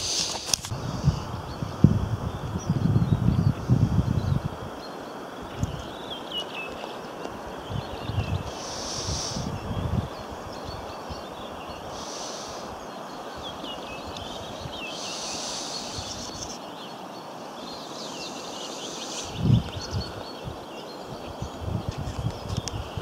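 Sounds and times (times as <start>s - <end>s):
small birds chirping and singing: 0.0s - 23.0s
wind hiss: 0.0s - 23.0s.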